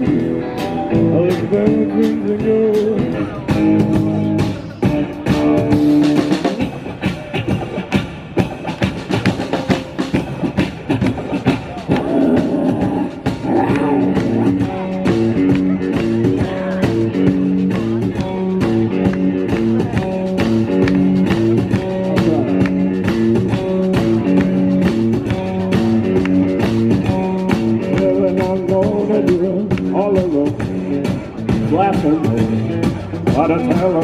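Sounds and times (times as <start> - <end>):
rock music with guitar: 0.0 - 34.0.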